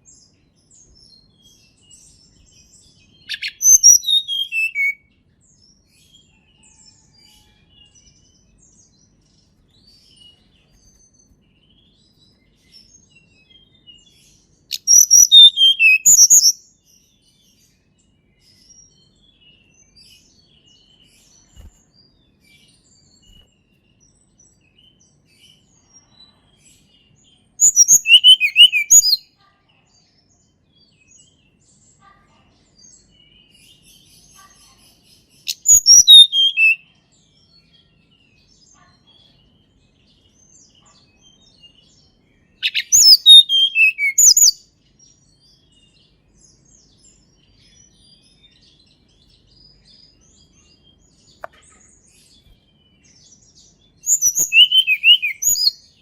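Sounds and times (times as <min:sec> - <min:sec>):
bird song with descending notes: 0:00.0 - 0:29.2, 0:32.7 - 0:56.0
faint bird chirps: 0:00.0 - 0:56.0.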